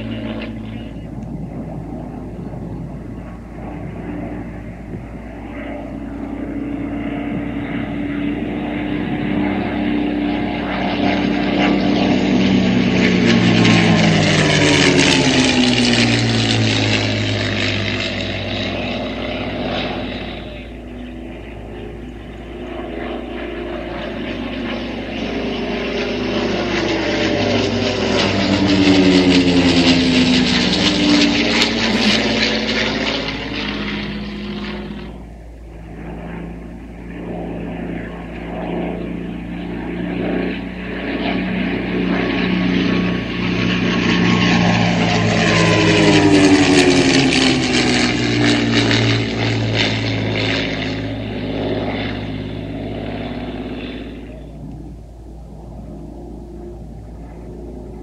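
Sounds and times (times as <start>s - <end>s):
propeller planes flying past: 0.0s - 58.0s.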